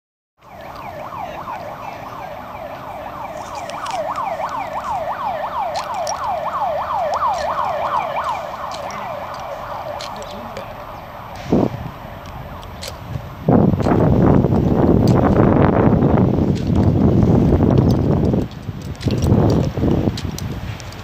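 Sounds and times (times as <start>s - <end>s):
siren yelping: 0.4s - 19.6s.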